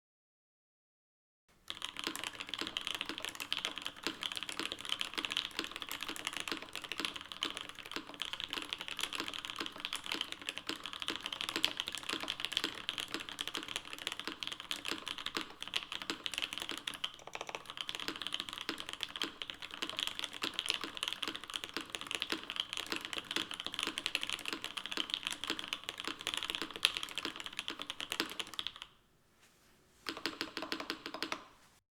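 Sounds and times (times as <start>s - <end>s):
fast mechanical keyboard typing: 1.6s - 28.9s, 30.0s - 31.6s.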